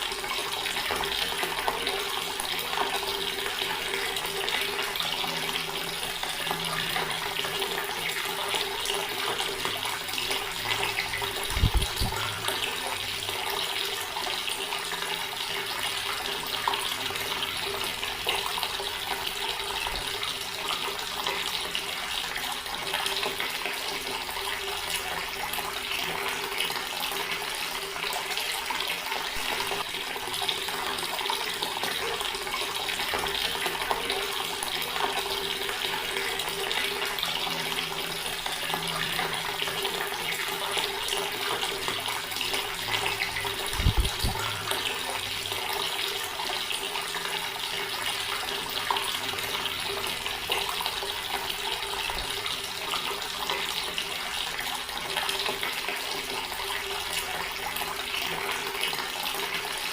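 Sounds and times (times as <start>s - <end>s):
tap water splashing into basin: 0.0s - 59.8s.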